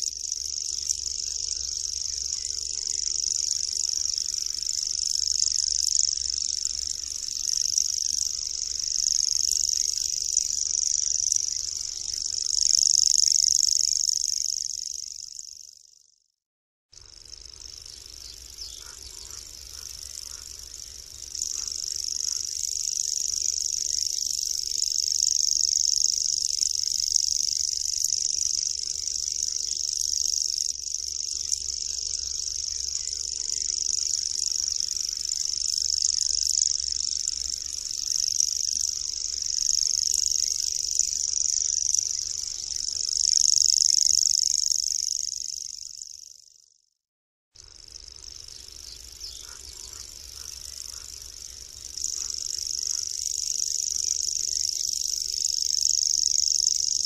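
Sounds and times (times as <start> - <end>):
bird reeling high trill: 0.0 - 15.9, 17.1 - 46.6, 47.6 - 57.0.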